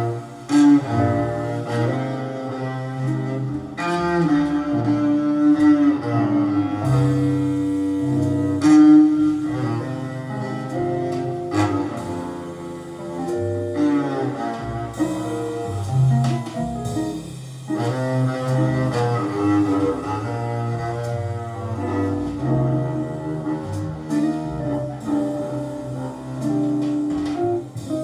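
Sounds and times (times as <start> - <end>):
instrumental music through speakers: 0.0 - 28.0.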